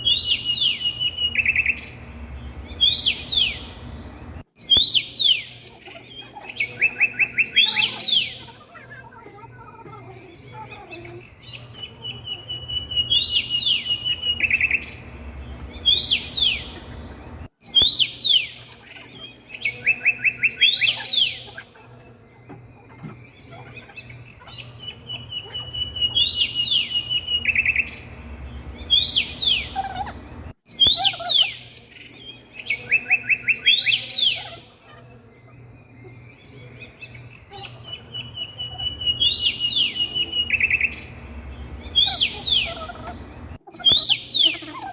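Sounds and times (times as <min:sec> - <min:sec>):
birds chirping and trilling: 0:00.0 - 0:44.9.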